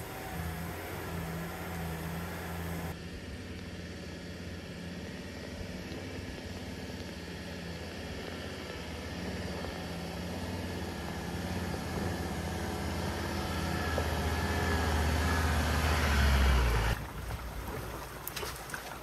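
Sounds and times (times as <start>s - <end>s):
vehicle engine running: 0.0s - 17.6s.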